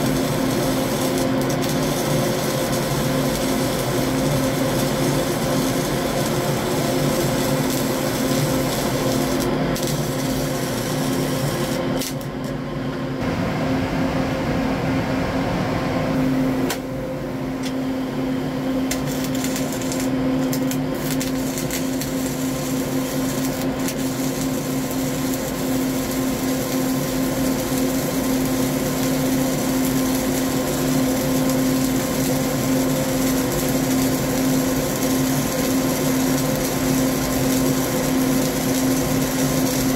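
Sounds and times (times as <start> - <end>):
welding arc crackling and hissing: 0.0 - 12.6, 18.7 - 39.9
steady hum: 0.0 - 39.9.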